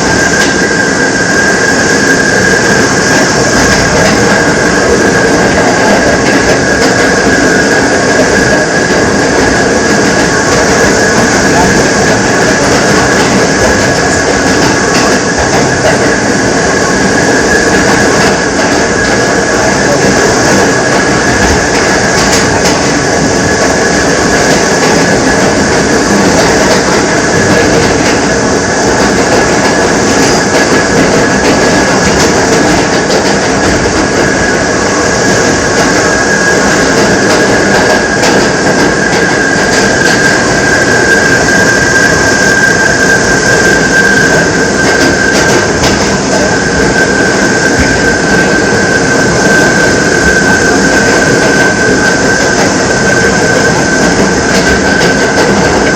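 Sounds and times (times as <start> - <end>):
high-pitched train howl: 0.0 - 55.9
subway train rumble: 0.0 - 55.9.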